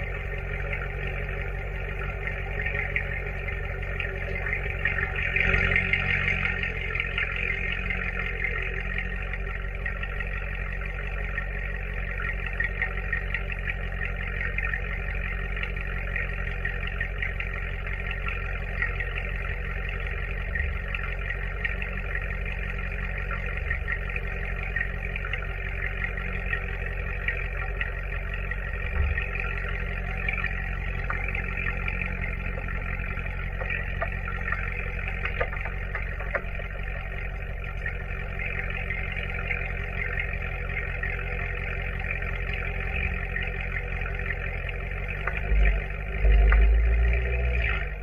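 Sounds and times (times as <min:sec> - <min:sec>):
car exhaust droning: 0:00.0 - 0:48.0.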